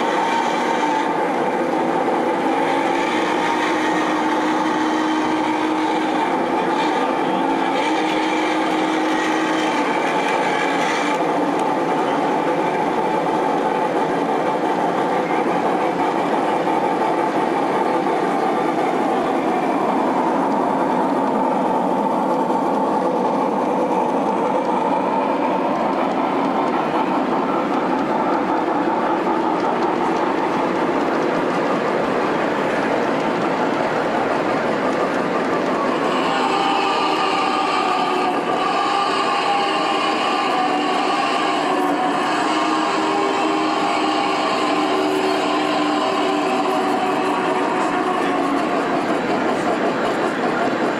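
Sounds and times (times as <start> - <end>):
model trains running on track: 0.0 - 50.9.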